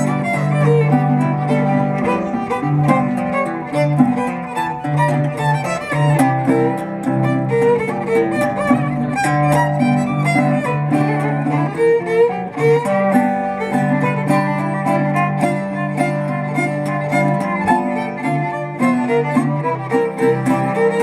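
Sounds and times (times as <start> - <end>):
fiddle bowing long notes: 0.0 - 21.0
plucked guitar rhythm: 0.0 - 21.0.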